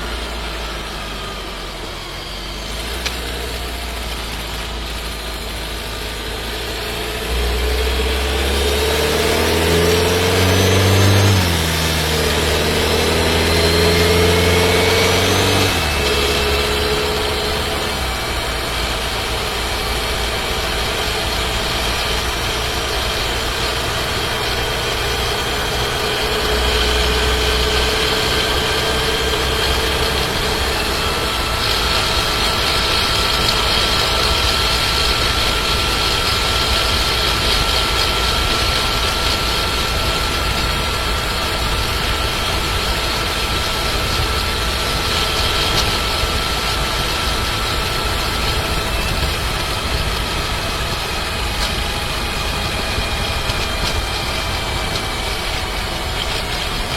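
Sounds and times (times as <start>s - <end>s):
car cabin engine noise: 0.0s - 56.9s.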